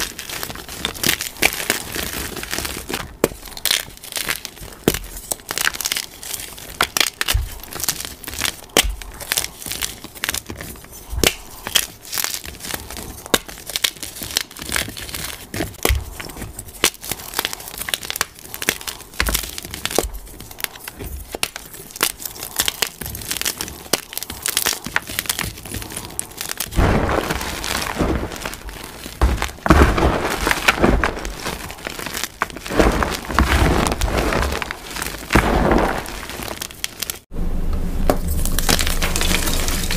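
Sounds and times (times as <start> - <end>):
hands crushing chalk: 0.0 - 37.3.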